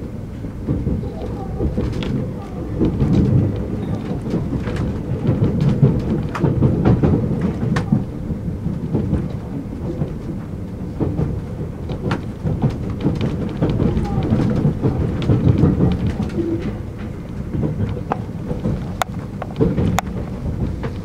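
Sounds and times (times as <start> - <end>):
train wheels rumbling on rails: 0.0 - 21.0
sharp clicks and rattles: 0.5 - 21.0.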